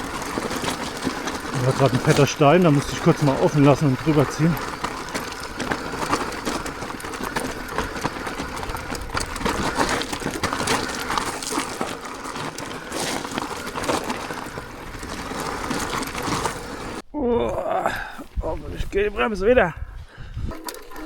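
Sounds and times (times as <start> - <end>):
bike rattling over stones: 0.0 - 17.0, 20.3 - 21.0.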